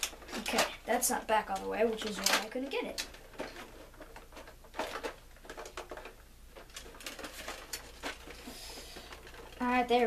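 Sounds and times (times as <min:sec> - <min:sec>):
plastic toy blaster clicks and rattles: 0:00.0 - 0:10.0.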